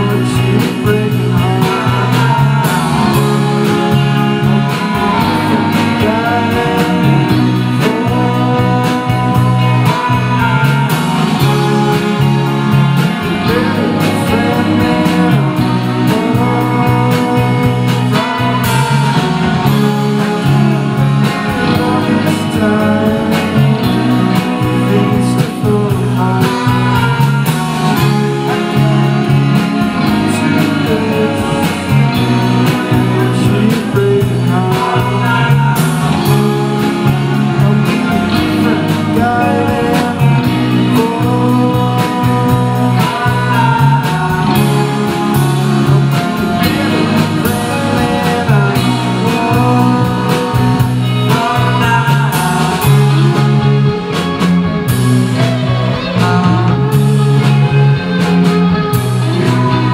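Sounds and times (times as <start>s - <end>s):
live band playing: 0.0s - 59.9s
person singing: 0.0s - 59.9s.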